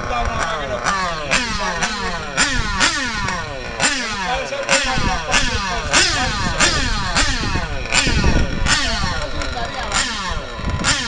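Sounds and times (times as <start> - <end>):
rc car engine revving: 0.0 - 11.0.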